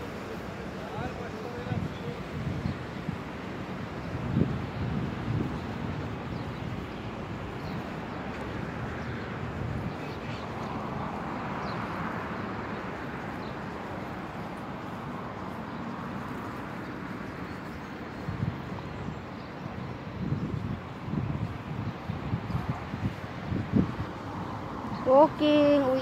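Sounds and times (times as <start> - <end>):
road traffic: 0.0 - 26.0
wind on microphone: 0.0 - 26.0.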